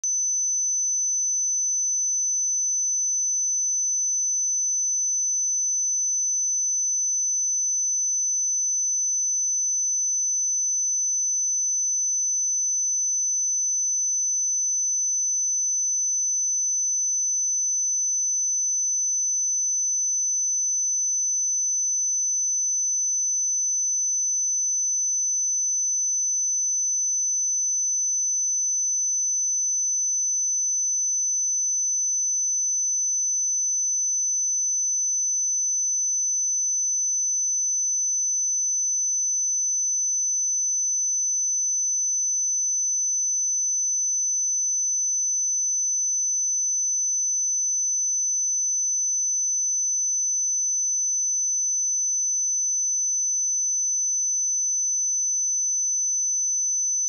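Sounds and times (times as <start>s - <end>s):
high-pitched sine-wave test tone: 0.0s - 57.0s.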